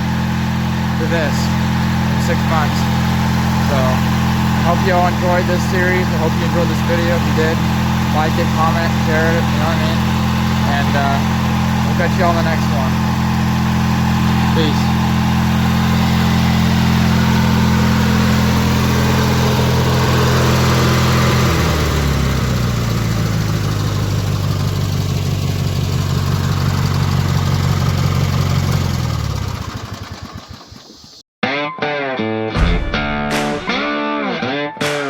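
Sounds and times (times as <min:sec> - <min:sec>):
lawn tractor engine running: 0:00.0 - 0:31.2.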